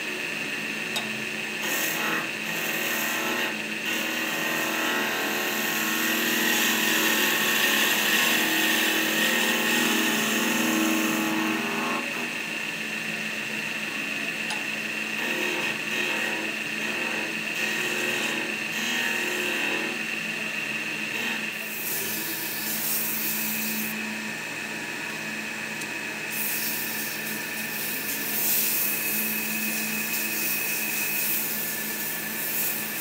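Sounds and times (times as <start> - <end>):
chisel cutting spinning wood: 0.0 - 24.2, 25.4 - 33.0
wood lathe humming: 0.0 - 33.0.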